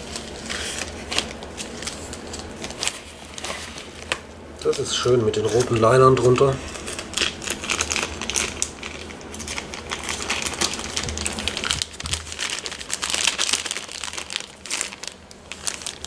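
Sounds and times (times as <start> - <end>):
plastic bags and bubble wrap crinkling: 0.0 - 16.0.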